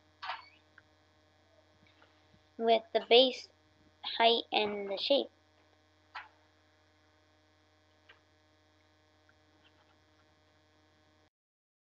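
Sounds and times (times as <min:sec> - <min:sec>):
faint electrical hum: 0:00.0 - 0:11.3.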